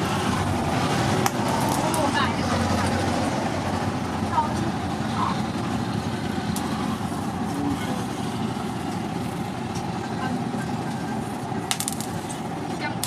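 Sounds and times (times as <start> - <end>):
coals crackling: 0.0 - 13.0.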